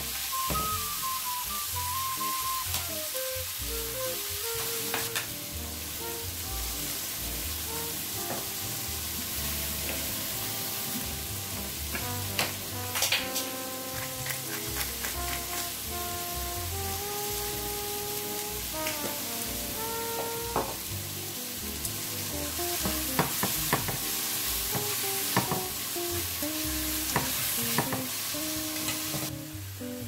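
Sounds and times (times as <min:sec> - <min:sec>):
background music: 0:00.0 - 0:30.0
vegetables sizzling in frying pan: 0:00.0 - 0:30.0.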